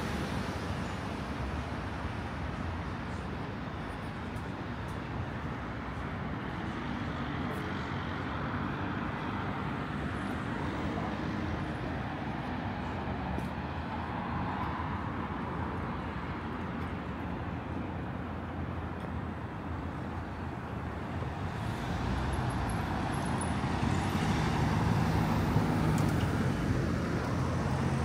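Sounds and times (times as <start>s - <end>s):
car engines: 0.0s - 28.0s.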